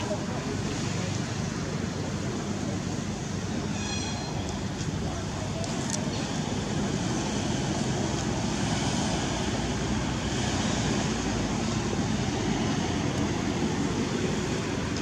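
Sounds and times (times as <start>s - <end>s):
low rumble with hiss: 0.0s - 3.8s, 4.4s - 15.0s.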